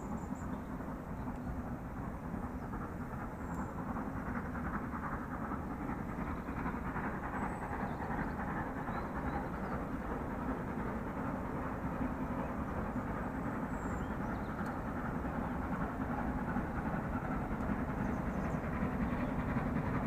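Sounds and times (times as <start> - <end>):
steam locomotive working: 0.0 - 20.0.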